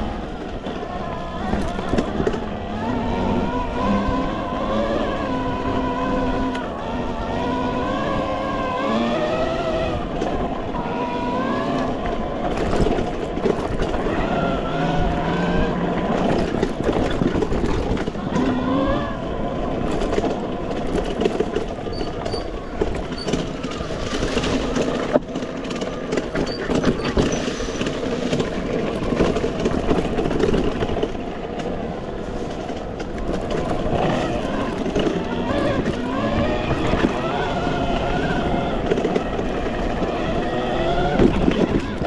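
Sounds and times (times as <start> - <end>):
bike knocking and rattling: 0.0 - 42.0
tyre noise: 0.0 - 42.0
wind: 0.0 - 42.0.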